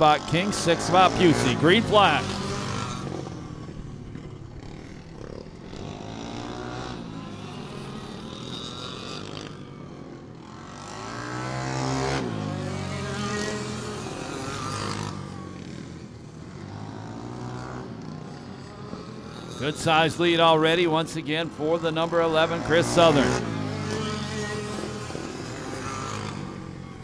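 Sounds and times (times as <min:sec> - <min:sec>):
go-kart engines racing: 0:00.0 - 0:27.0
kart passing close: 0:00.0 - 0:27.0.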